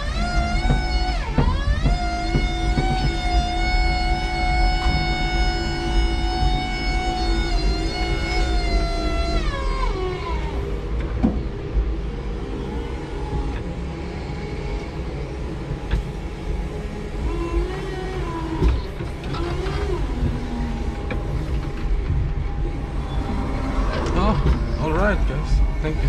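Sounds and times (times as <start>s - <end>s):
electric motor whining: 0.0s - 26.0s
low rumble of truck: 0.0s - 26.0s.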